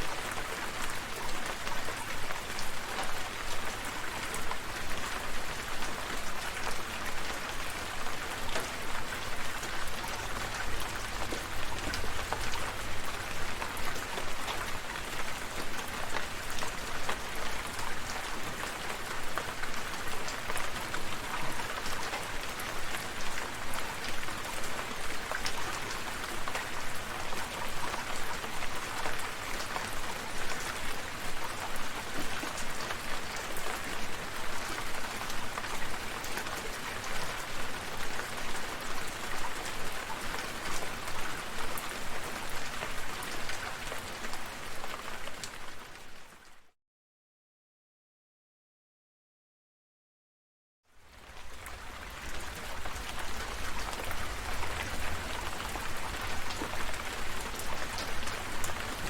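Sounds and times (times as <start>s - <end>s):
steady rainfall: 0.0s - 46.6s, 50.9s - 59.0s.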